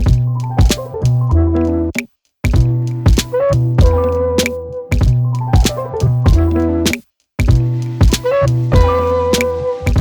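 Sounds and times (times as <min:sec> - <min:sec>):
instrumental music with bass and drums: 0:00.0 - 0:10.0.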